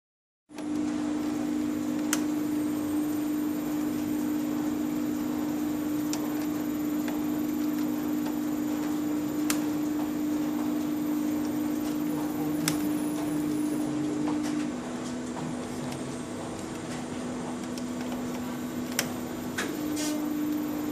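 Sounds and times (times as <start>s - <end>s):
electrical hum: 0.5s - 20.9s
faint mechanical whir: 0.5s - 20.9s.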